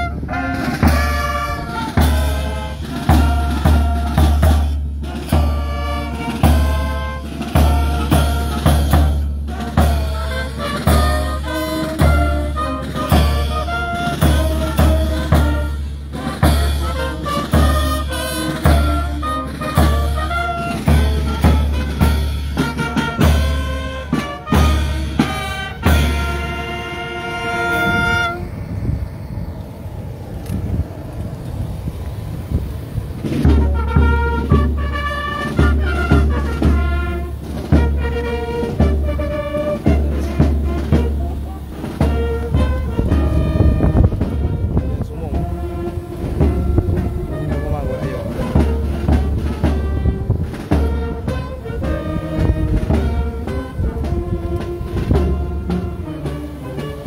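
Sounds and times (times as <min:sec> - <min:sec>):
music with heavy drum beat: 0:00.0 - 0:26.8, 0:33.4 - 0:57.0.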